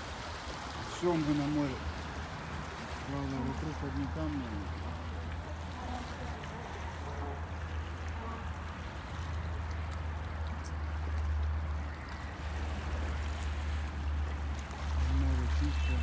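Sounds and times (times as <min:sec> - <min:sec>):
small waves lapping against rocks: 0:00.0 - 0:16.0.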